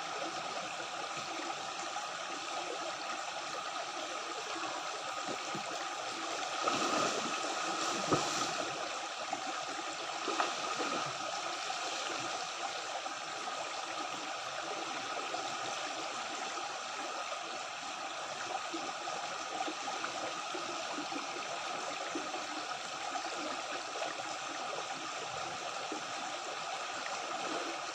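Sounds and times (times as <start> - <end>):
stream water flowing: 0.0 - 27.9.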